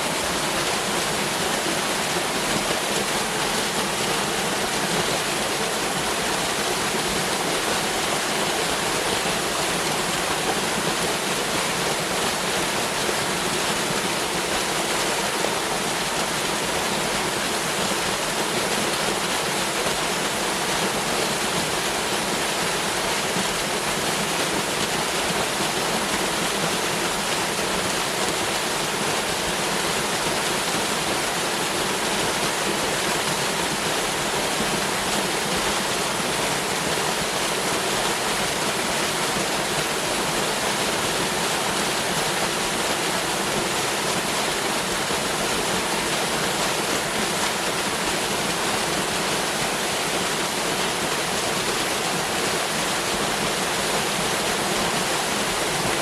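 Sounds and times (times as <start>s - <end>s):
waterfall pouring: 0.0s - 56.0s.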